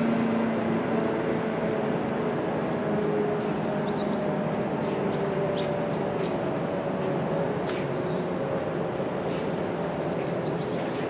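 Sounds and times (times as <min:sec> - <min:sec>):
rotating warning siren: 0:00.0 - 0:11.0.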